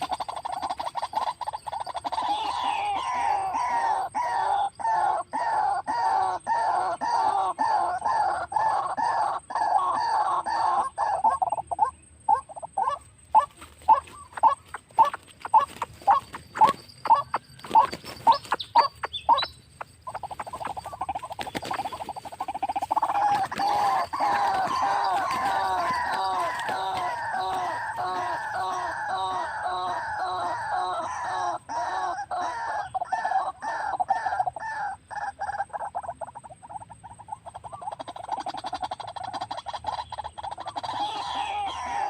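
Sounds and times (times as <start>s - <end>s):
waterhen croaking calls: 0.0s - 42.0s.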